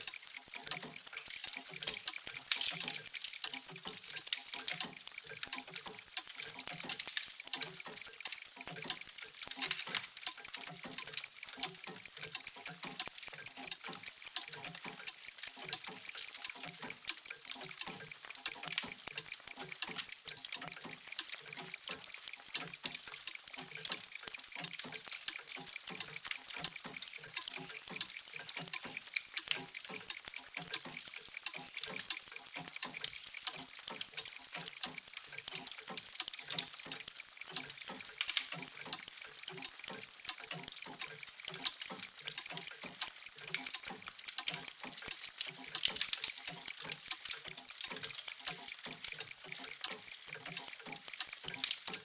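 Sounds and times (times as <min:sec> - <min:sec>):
mechanical clocks ticking: 0:00.0 - 0:52.0.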